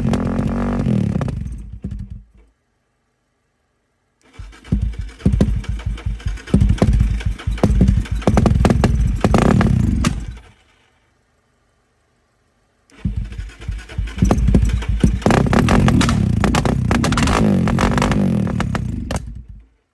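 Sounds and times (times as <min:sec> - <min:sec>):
motorcycle engine sputtering and starting: 0:00.0 - 0:02.5, 0:04.2 - 0:11.0, 0:12.9 - 0:19.8.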